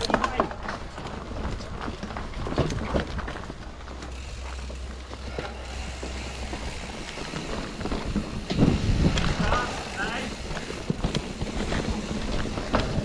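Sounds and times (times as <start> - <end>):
bike riding low rumble: 0.0 - 13.0
knocks and rattles of bike: 0.0 - 13.0.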